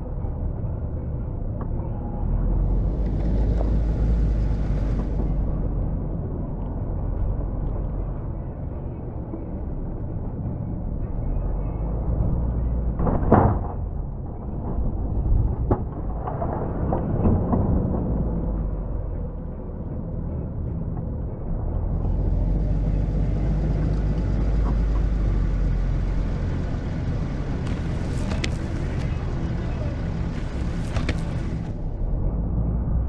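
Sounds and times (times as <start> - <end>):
truck engine running: 0.0 - 16.5, 17.1 - 33.0.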